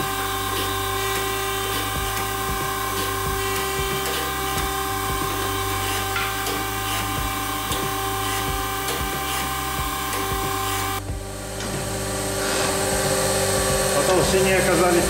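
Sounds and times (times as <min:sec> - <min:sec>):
grinding wheel cutting steel: 0:00.0 - 0:15.0
machine motor hum and whine: 0:00.0 - 0:15.0.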